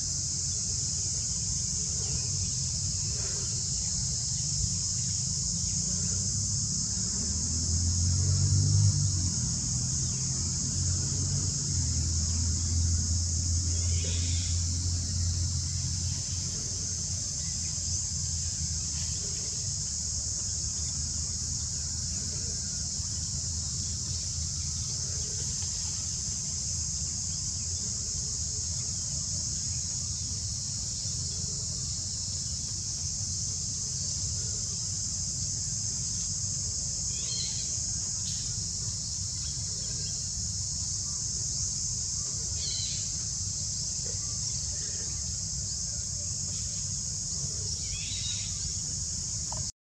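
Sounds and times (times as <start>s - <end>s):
high-pitched insect drone: 0.0s - 49.7s.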